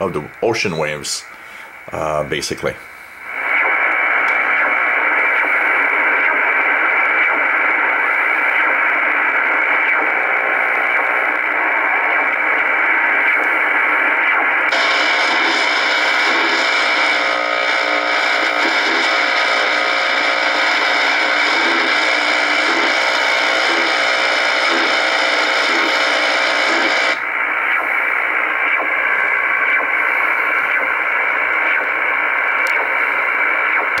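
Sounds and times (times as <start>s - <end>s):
shortwave radio static hiss: 0.0s - 34.0s
pulsing radar signal: 3.2s - 34.0s.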